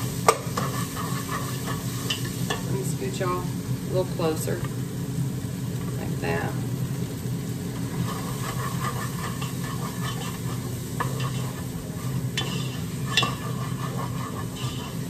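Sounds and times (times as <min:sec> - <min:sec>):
air fryer hum: 0:00.0 - 0:15.0
onions sizzling in oil: 0:00.0 - 0:15.0.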